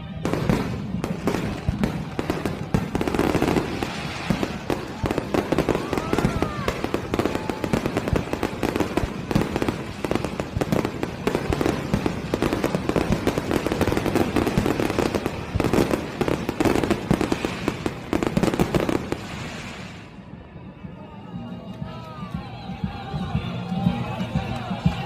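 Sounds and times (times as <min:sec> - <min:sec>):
fireworks bangs and crackles: 0:00.0 - 0:20.4.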